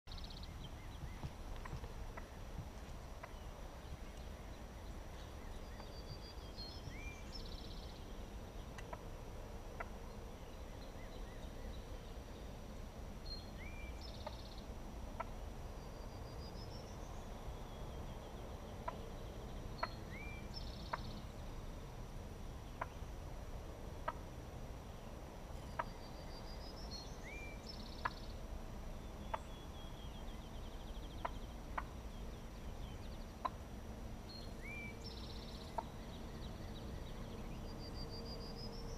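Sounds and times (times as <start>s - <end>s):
songbird singing: 0.0s - 38.9s
steady low rumble: 0.1s - 38.9s.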